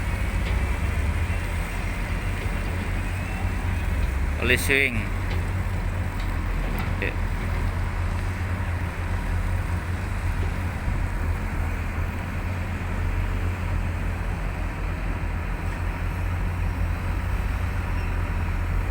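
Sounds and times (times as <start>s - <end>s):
excavator diesel engine rumbling: 0.0s - 18.9s.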